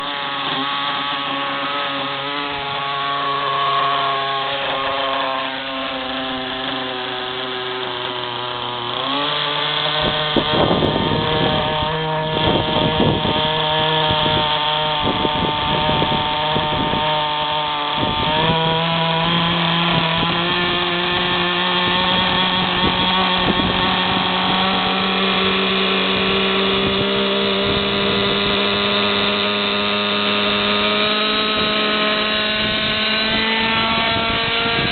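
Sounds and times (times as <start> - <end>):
model helicopter engine running: 0.0 - 34.9.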